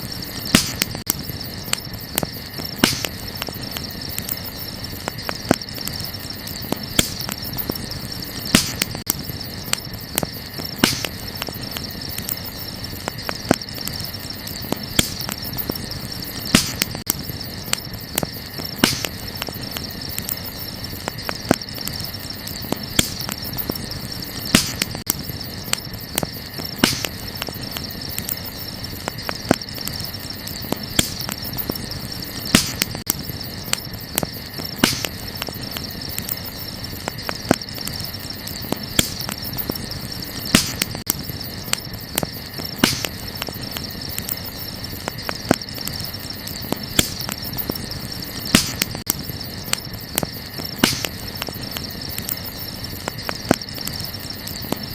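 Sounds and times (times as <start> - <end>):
night insects chirring: 0.0 - 54.9
wood fire crackling and popping: 0.0 - 54.9.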